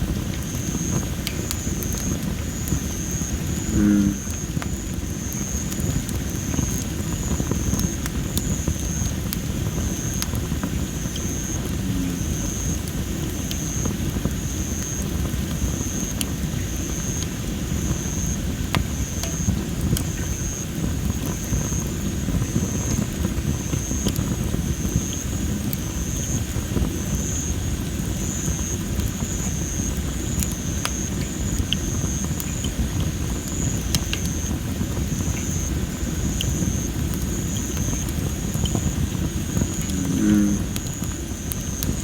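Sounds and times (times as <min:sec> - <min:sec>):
campfire crackling: 0:00.0 - 0:42.0
low rumble of fire: 0:00.0 - 0:42.0.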